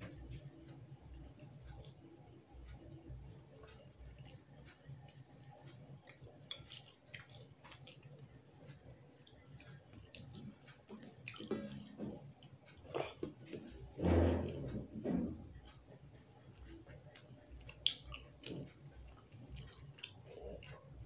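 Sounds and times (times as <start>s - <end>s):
chewing: 2.6s - 21.0s.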